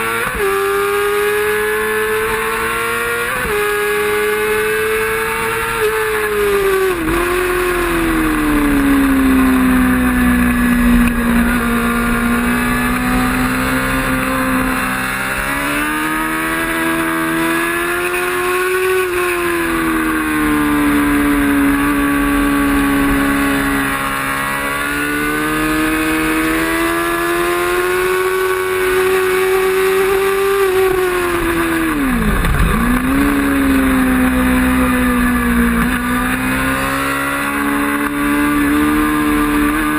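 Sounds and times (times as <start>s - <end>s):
racing motorcycle engine revving: 0.0s - 39.9s
wind and road noise: 0.0s - 39.9s.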